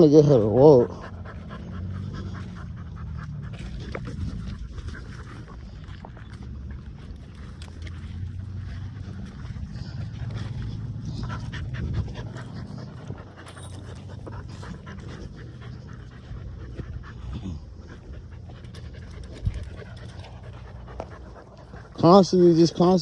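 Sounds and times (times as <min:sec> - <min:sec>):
puppy panting: 0:00.0 - 0:23.0
low rumble near microphone: 0:00.6 - 0:22.6.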